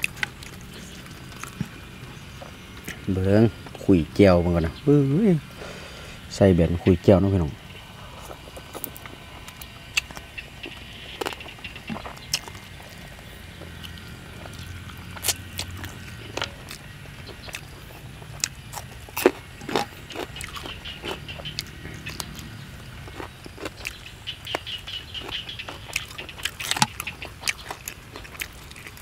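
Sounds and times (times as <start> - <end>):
crispy food crunching: 0.0 - 3.1, 8.0 - 29.0
wet chewing: 0.0 - 3.8, 8.1 - 29.0
low steady hum: 0.0 - 29.0.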